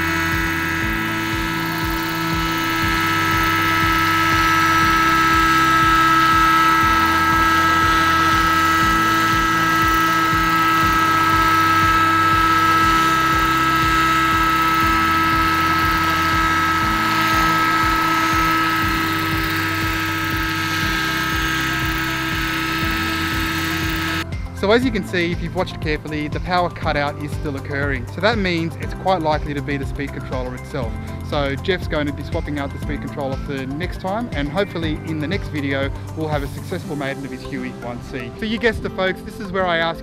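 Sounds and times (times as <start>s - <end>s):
electric motor whine: 0.0s - 40.0s
rotor blades beating: 0.0s - 40.0s.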